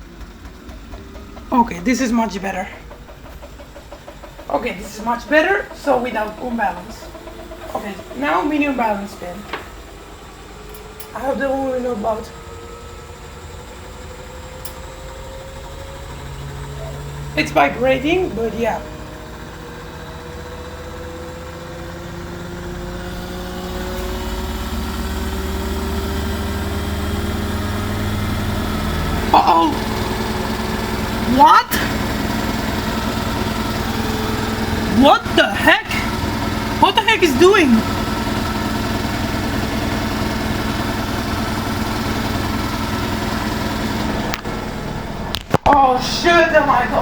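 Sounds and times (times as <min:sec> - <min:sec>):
washing machine drum spinning: 0:00.0 - 0:47.0.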